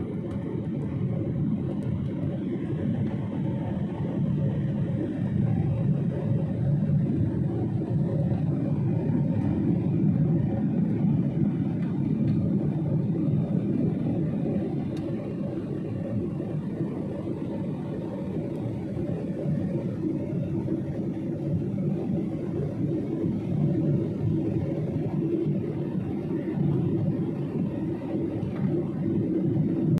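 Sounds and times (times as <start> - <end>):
airliner cabin engine rumble: 0.0 - 29.9
faint steady hum: 0.0 - 29.9.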